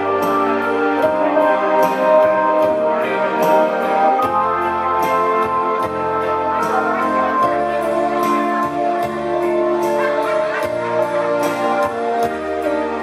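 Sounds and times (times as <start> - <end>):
instrumental band with keyboard: 0.0 - 13.0.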